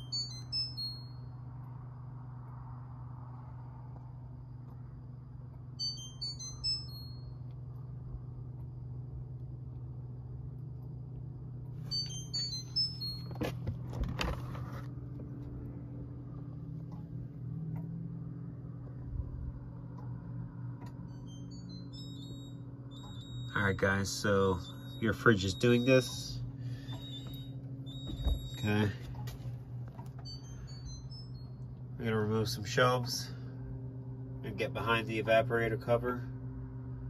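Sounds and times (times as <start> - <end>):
refrigerator alarm beeps: 0.0 - 2.9, 4.3 - 36.4
steady low hum: 0.0 - 37.0.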